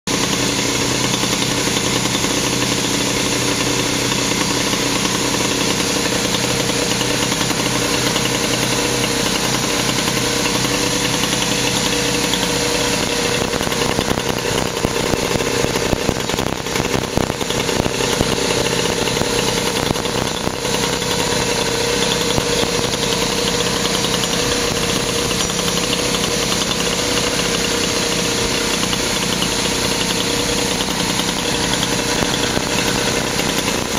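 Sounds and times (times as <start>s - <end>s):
moped two-stroke engine running: 0.0s - 33.9s.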